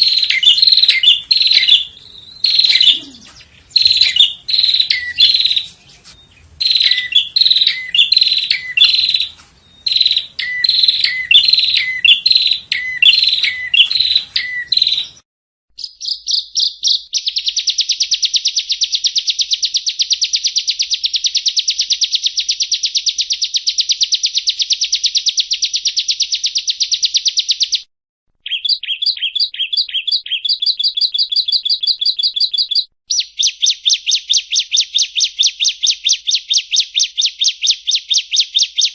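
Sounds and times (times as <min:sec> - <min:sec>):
bird singing falling notes: 0:00.0 - 0:15.2, 0:15.8 - 0:38.9
fast bird trill: 0:00.0 - 0:15.2, 0:15.8 - 0:38.9.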